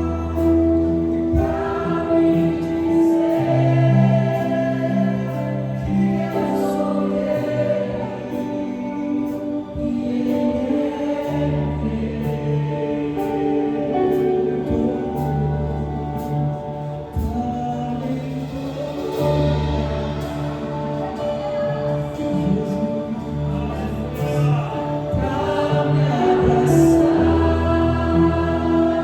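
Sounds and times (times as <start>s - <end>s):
bass line: 0.0s - 13.6s, 14.5s - 29.0s
wordless choir-like voices: 0.0s - 16.0s, 17.8s - 29.0s.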